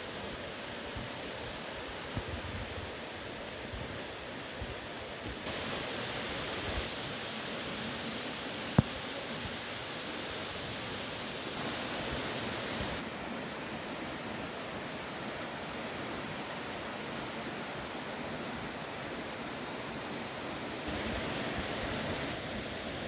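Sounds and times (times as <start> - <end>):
distant waterfalls rushing: 0.0 - 23.0.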